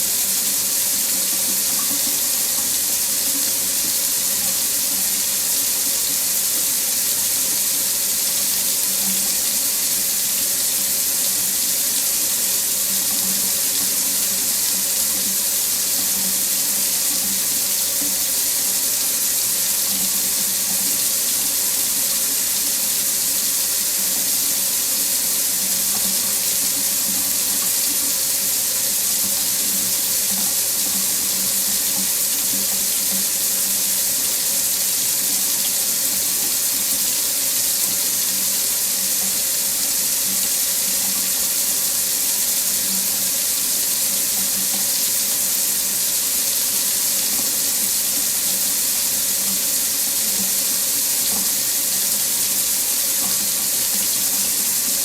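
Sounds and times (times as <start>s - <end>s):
faucet water running into sink: 0.0s - 55.0s.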